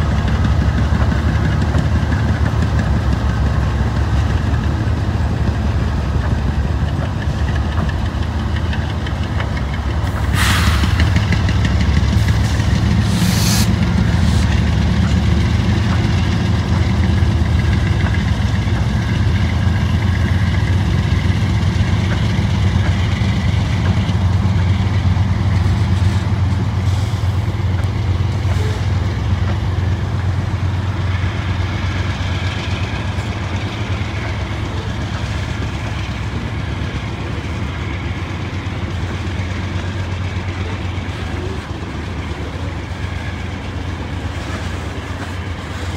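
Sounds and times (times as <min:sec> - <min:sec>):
deep locomotive engine rumble: 0:00.0 - 0:45.9.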